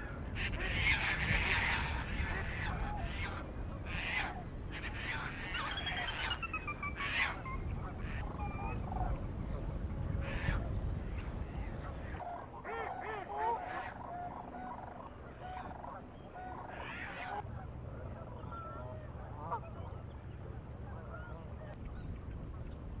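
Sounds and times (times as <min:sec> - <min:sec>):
geese honking: 0:00.0 - 0:09.6, 0:10.2 - 0:22.0
waterbird calls: 0:00.0 - 0:09.6, 0:10.2 - 0:22.1
low steady wind noise: 0:00.0 - 0:23.0.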